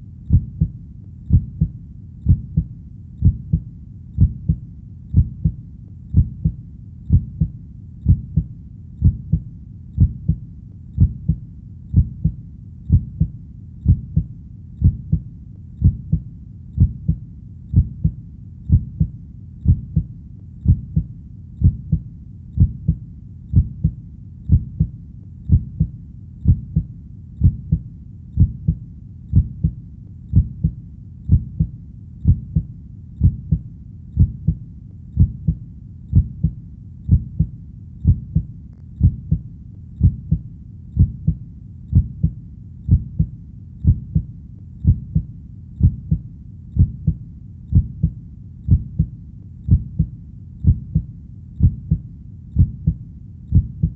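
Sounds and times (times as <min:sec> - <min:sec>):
heartbeat double thump: 0:00.3 - 0:00.7, 0:01.3 - 0:03.6, 0:04.2 - 0:09.4, 0:10.0 - 0:10.4, 0:11.0 - 0:15.2, 0:15.8 - 0:16.2, 0:16.8 - 0:22.0, 0:22.6 - 0:24.9, 0:25.5 - 0:27.8, 0:28.4 - 0:33.6, 0:34.2 - 0:34.6, 0:35.2 - 0:39.4, 0:40.0 - 0:40.4, 0:41.0 - 0:46.2, 0:46.8 - 0:49.1, 0:49.7 - 0:52.0, 0:52.6 - 0:53.9.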